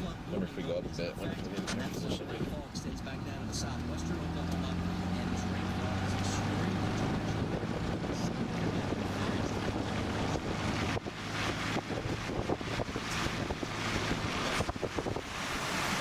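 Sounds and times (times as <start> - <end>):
wind buffeting microphone: 0.0 - 3.2, 5.4 - 16.0
low vehicle hum: 0.0 - 16.0.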